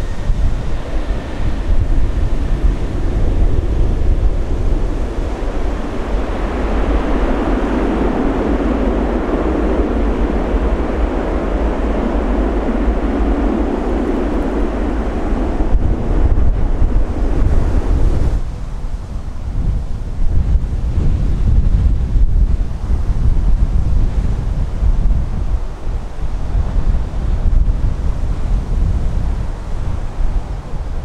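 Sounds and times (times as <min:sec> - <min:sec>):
jet engines passing: 0:00.0 - 0:31.0
wind rumble on microphone: 0:00.0 - 0:31.0.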